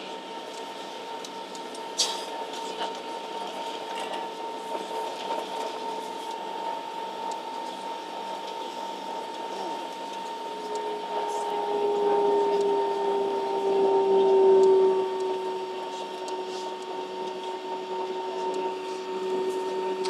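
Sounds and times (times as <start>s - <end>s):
aircraft cabin rushing hum: 0.0s - 20.0s
low engine whine: 0.0s - 20.0s
steady high whine: 0.0s - 20.0s.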